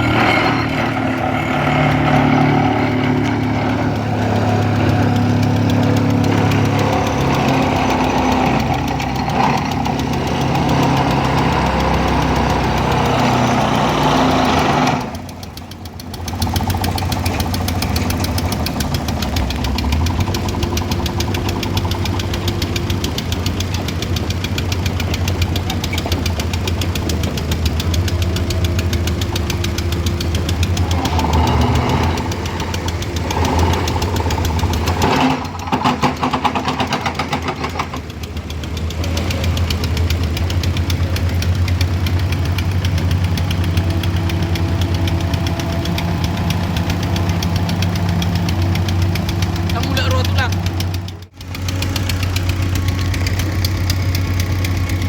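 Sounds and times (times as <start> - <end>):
engine knocking clatter: 0.0 - 55.0
engine running steadily: 0.0 - 55.0.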